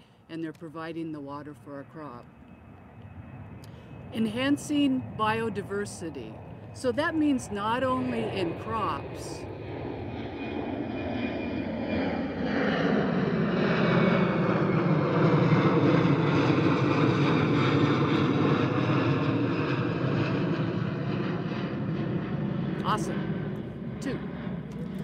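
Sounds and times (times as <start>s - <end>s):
airplane flying low overhead: 0.0s - 25.0s.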